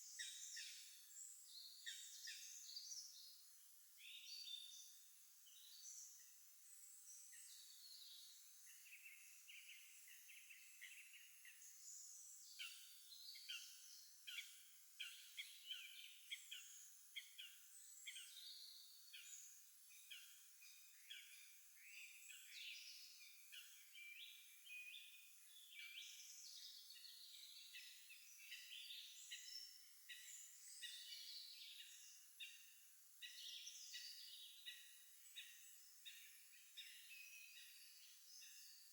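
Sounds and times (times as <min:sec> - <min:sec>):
faint songbirds singing: 0:00.0 - 0:38.9.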